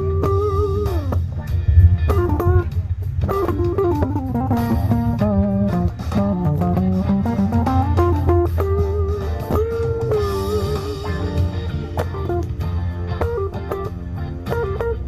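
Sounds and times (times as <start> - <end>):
electric guitar melody over bass: 0.0 - 15.0.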